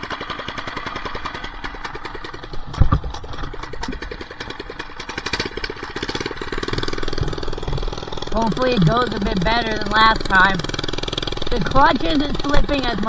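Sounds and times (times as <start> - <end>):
minibike engine popping: 0.0 - 13.0.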